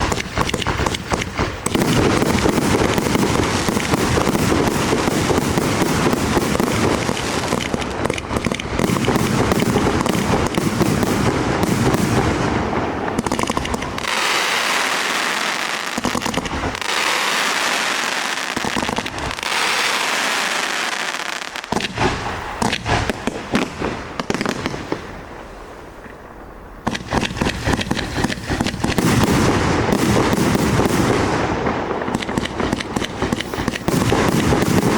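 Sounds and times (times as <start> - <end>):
firework cake shots: 0.0 - 23.5, 26.9 - 34.9.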